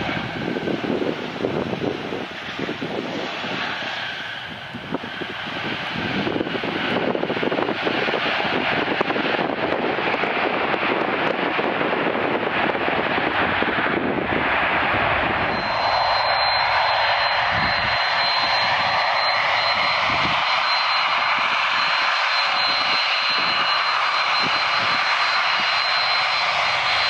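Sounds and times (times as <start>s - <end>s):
jet engines on landing rollout: 0.0s - 27.0s.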